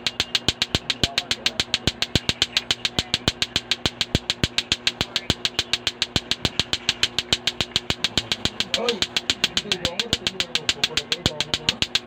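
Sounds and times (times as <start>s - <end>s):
low steady hum: 0.0s - 12.0s
plastic balls clacking: 0.0s - 12.0s.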